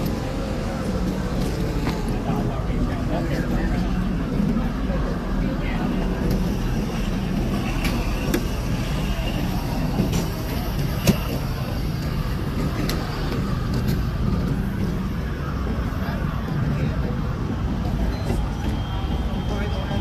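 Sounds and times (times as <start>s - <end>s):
engine rumble: 0.0s - 20.0s
faint voices: 0.0s - 20.0s.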